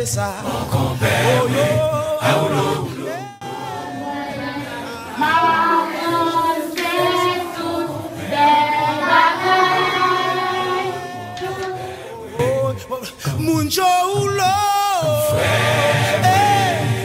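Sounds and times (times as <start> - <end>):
children singing together: 0.4 - 12.5, 15.3 - 17.0.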